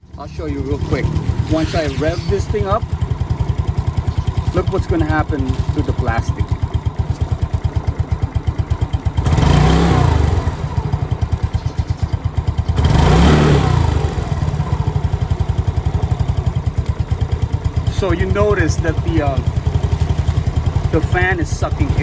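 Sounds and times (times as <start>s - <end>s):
scooter engine idling and revving: 0.0s - 22.0s.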